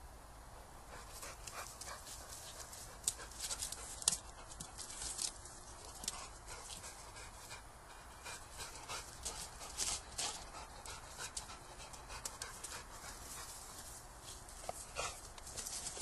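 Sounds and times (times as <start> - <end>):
dog panting: 0.9 - 16.0.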